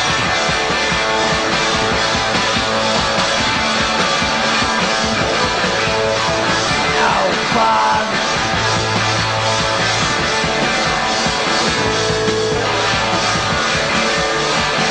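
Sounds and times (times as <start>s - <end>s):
punk rock instrumental: 0.0s - 14.9s.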